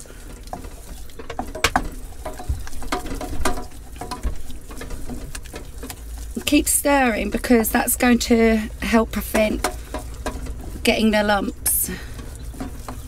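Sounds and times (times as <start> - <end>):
wooden spoon scraping saucepan: 0.0 - 13.0.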